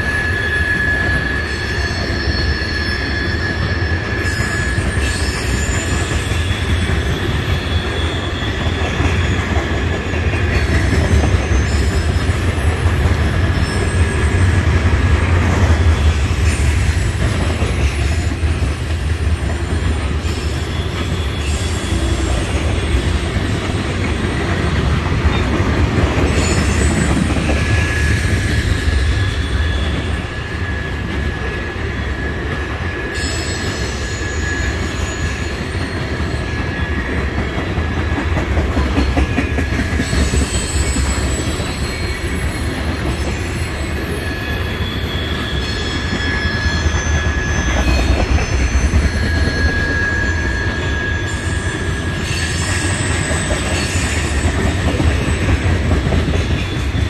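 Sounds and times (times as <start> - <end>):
high train squeal: 0.0 - 57.0
train wheels rumbling on rails: 0.0 - 57.0.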